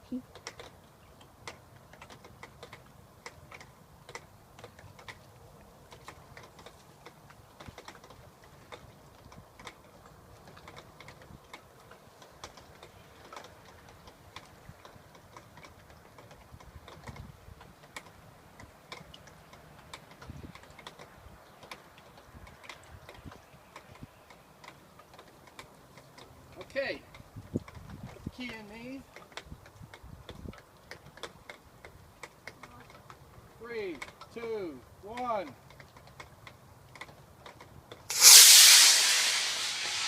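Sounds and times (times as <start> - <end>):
light irregular clicking and tapping: 0.1 - 38.1.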